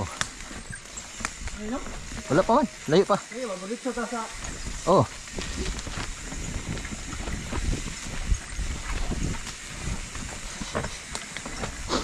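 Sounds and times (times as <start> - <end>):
wind buffeting microphone: 0.0 - 2.6, 4.3 - 12.0
bike clicks and rattles: 0.0 - 12.0.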